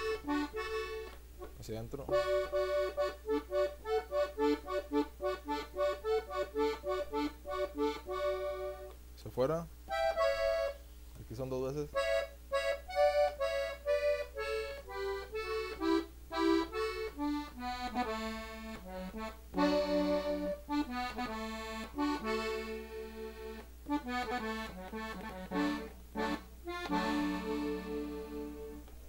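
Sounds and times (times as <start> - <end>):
button accordion played slowly: 0.0 - 9.0, 9.9 - 10.9, 11.9 - 29.0.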